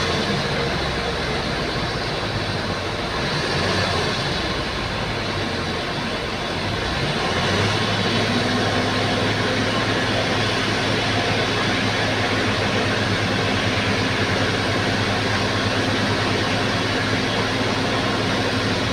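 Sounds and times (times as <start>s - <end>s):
bulldozer diesel engine running: 0.0s - 18.9s.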